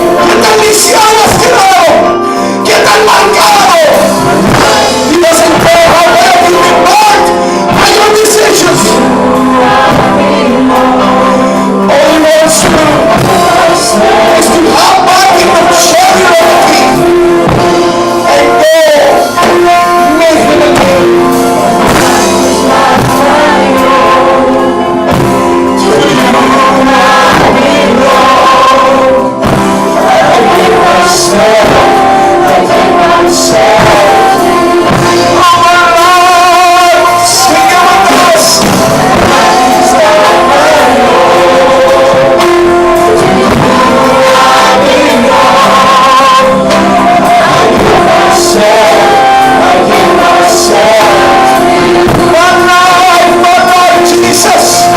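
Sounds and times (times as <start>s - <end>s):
instrumental accompaniment: 0.0s - 54.9s
worship singing: 0.0s - 54.9s.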